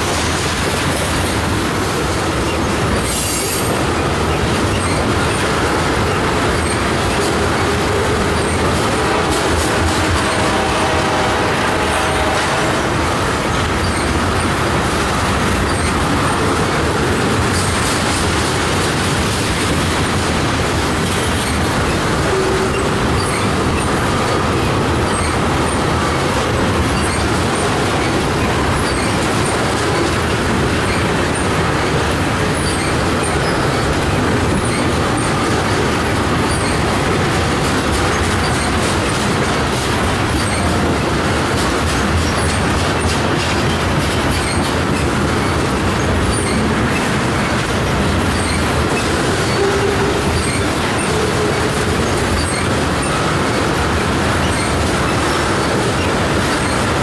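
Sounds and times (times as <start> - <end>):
freight train wheels rumbling on rail: 0.0 - 57.0.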